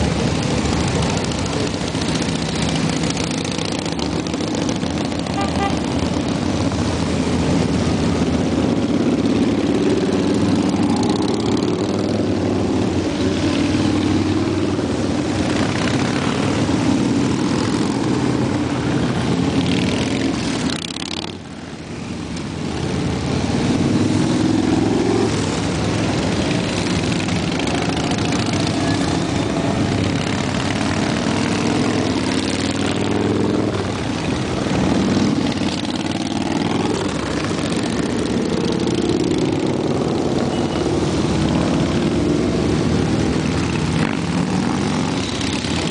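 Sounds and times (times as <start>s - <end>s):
motorcycles riding past: 0.0s - 45.9s.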